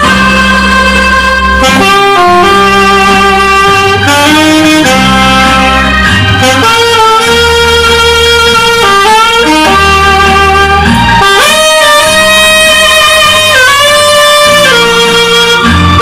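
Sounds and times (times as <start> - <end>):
low bass line: 0.0 - 16.0
saxophone slow melody: 0.0 - 16.0.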